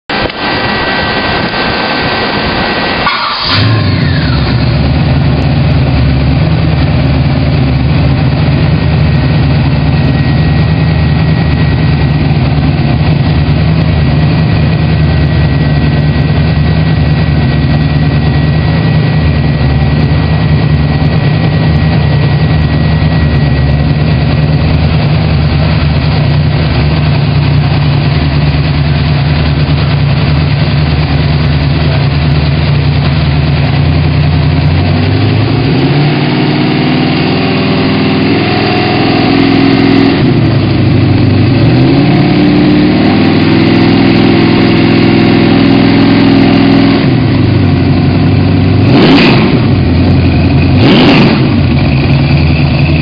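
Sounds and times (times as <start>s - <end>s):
engine idling: 0.1s - 53.0s.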